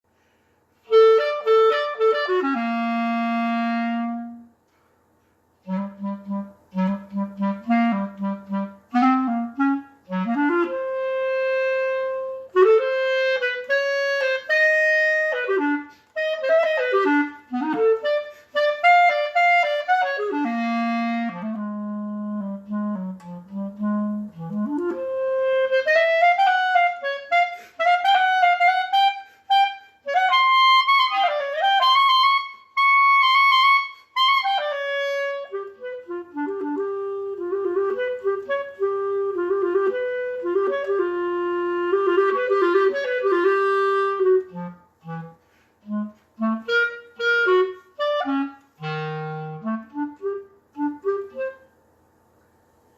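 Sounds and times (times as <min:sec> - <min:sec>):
solo clarinet: 0:00.2 - 0:04.9, 0:05.5 - 0:51.8.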